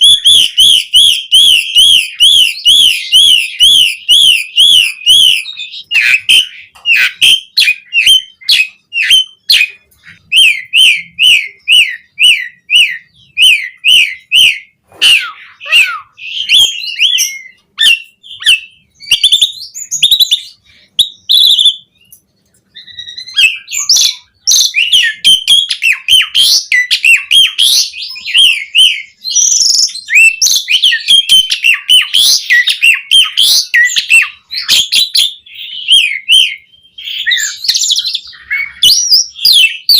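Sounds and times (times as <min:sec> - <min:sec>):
bird whistling and chattering: 0:00.0 - 0:39.9.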